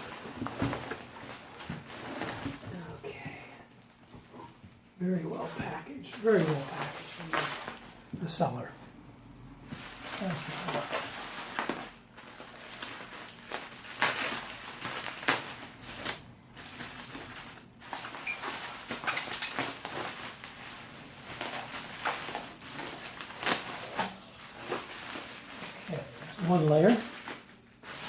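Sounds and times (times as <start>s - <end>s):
packing wrap rustling and crackling: 0.0s - 8.5s, 9.7s - 28.0s.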